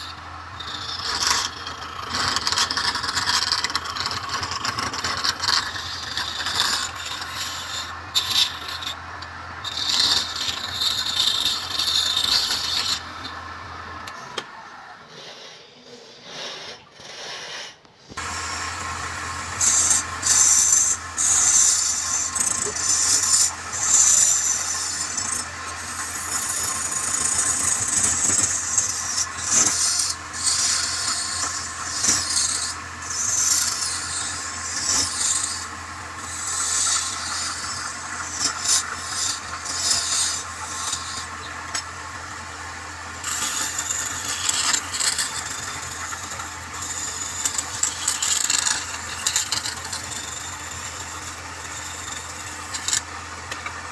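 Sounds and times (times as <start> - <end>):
wood lathe humming: 0.0 - 15.5, 18.1 - 53.9
tool scraping spinning wood: 0.0 - 53.9.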